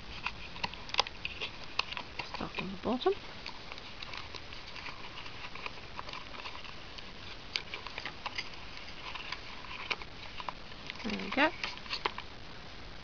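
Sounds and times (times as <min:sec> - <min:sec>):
cardboard packaging crinkling: 0:00.0 - 0:12.3.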